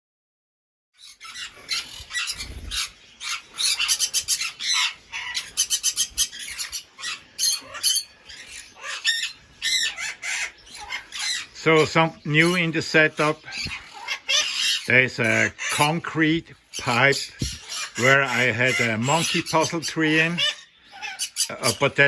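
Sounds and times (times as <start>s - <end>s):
parrots squawking: 1.0s - 22.0s.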